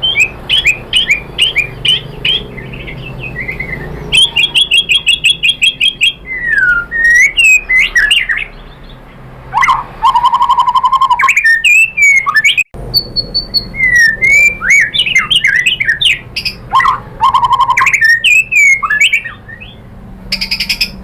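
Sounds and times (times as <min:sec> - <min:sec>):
bird singing chirped notes: 0:00.0 - 0:21.0.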